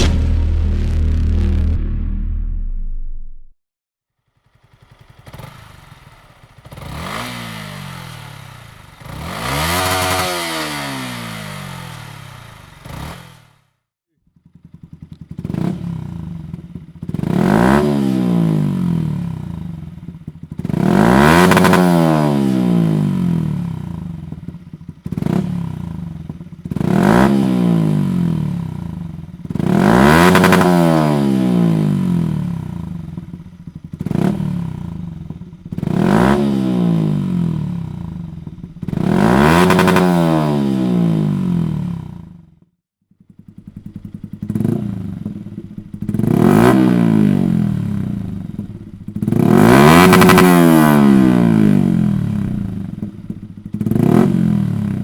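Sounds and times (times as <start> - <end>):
motorcycle engine revving: 0.0 - 3.5, 4.4 - 13.6, 14.4 - 42.6, 43.2 - 55.0.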